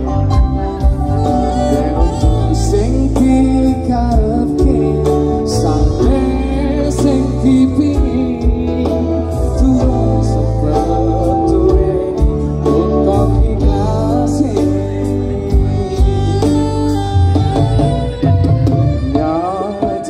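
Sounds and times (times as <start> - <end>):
live band through loud pa: 0.0 - 20.0.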